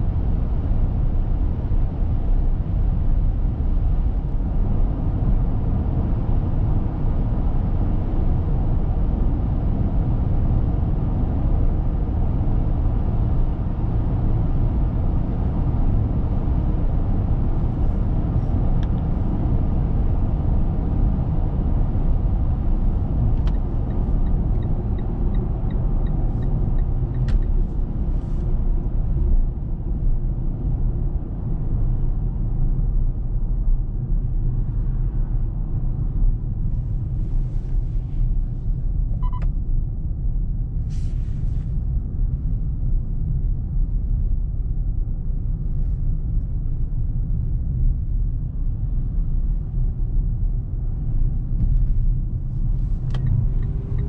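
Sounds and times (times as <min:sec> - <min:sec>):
road and wind noise in car: 0:00.0 - 0:54.0.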